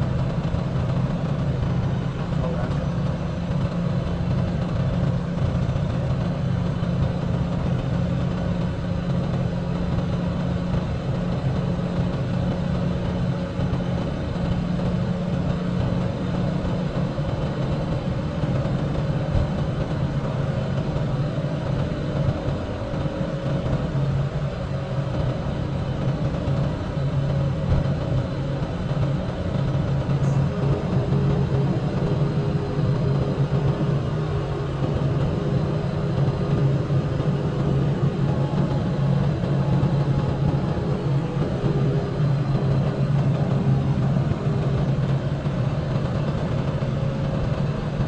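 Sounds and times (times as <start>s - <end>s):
truck diesel engine droning: 0.0s - 48.0s.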